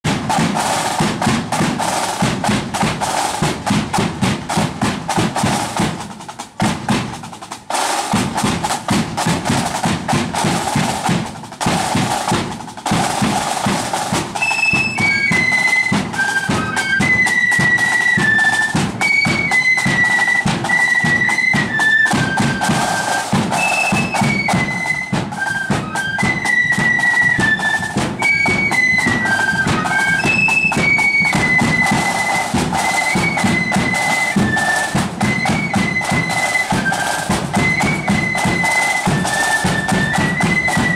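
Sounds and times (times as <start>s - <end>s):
snare and bass drums marching: 0.0s - 40.9s
flutes playing high melody: 0.1s - 6.0s, 11.8s - 40.9s.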